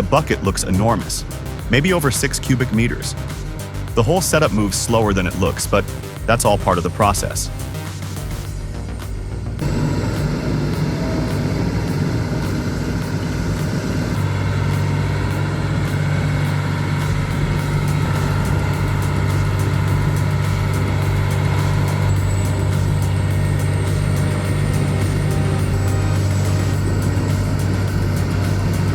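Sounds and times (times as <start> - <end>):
heavy engine droning: 0.0 - 28.9.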